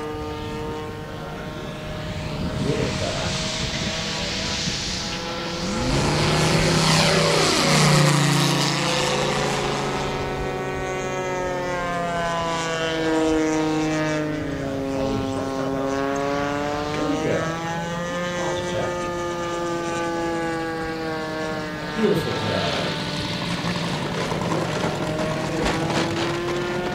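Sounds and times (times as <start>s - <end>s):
model plane radial engine: 0.0s - 26.9s.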